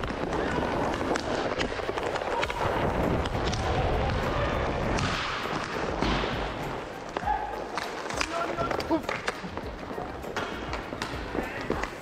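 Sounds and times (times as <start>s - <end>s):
skate wheels rolling on floor: 0.0s - 12.0s.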